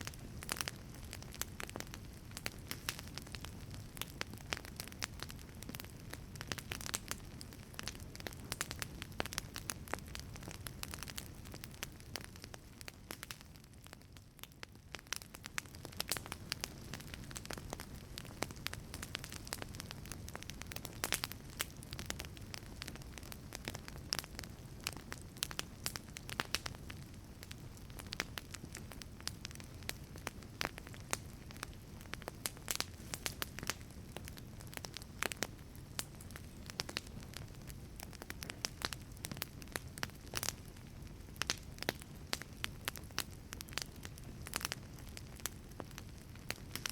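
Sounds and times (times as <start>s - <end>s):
low rush of flame: 0.0s - 46.9s
wood fire crackling and popping: 0.0s - 46.9s.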